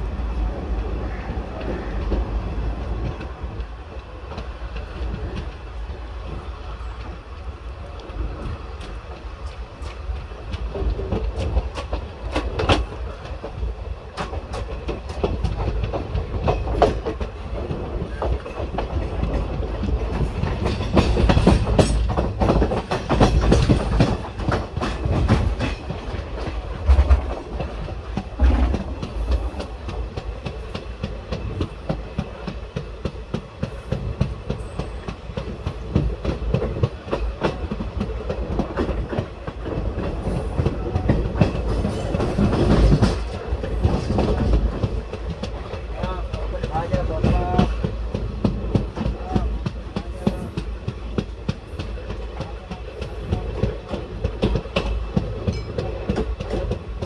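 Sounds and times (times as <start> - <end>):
train low rumble: 0.0 - 57.0
wheels clicking over rail joints: 1.6 - 57.0.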